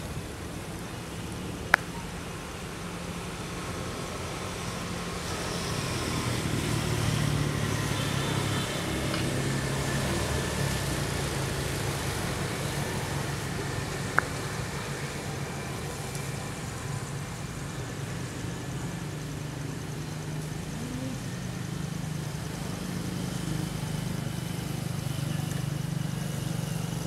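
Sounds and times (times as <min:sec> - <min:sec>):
vehicle engine passing: 0:00.0 - 0:27.0.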